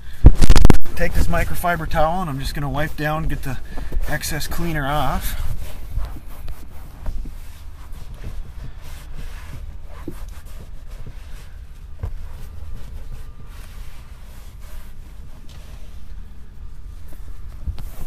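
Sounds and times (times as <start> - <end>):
low steady rumble: 0.0 - 18.0
towel rubbing leather: 0.4 - 18.0.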